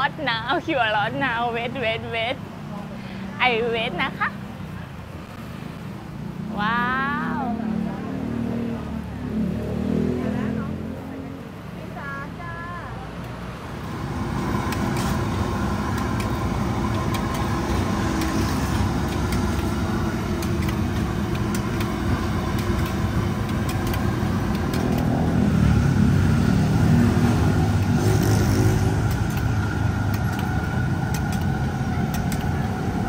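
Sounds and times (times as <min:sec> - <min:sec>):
vehicle engines rumbling: 0:00.0 - 0:33.0.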